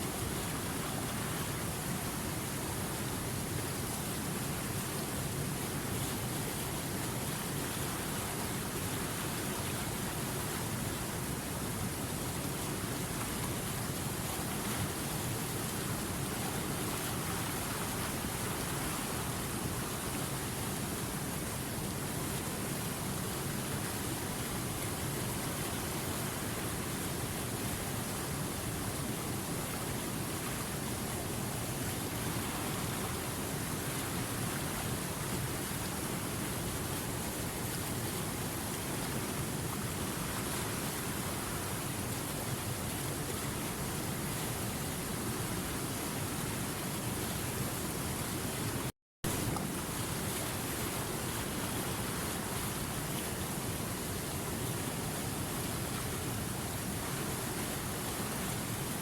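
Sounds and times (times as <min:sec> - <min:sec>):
river water rushing over rapids: 0:00.0 - 0:59.0.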